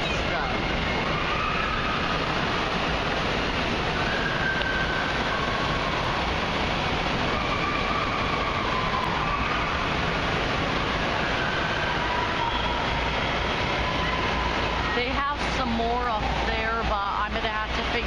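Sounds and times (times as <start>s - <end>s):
rushing and splashing water: 0.0s - 18.0s.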